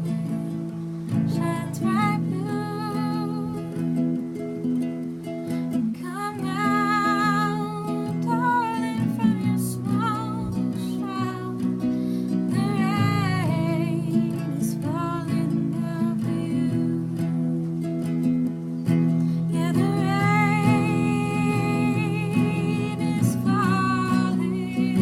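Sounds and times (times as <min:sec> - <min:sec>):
acoustic guitar: 0:00.0 - 0:25.0
woman singing: 0:00.0 - 0:25.0.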